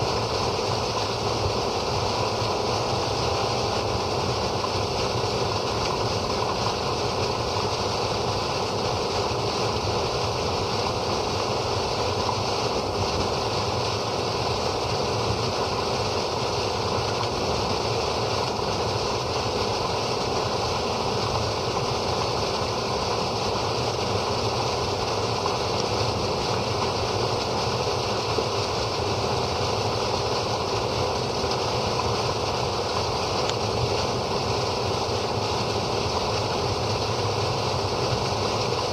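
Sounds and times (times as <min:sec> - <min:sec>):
water pouring from a pipe: 0:00.0 - 0:38.9.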